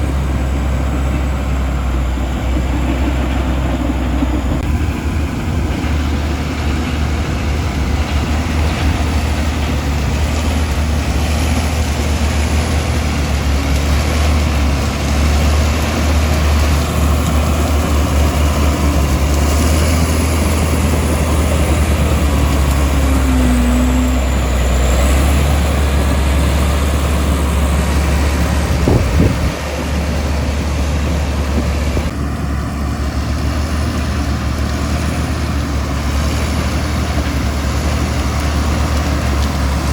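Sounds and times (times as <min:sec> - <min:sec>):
bulldozer diesel engine drone: 0:00.0 - 0:39.9.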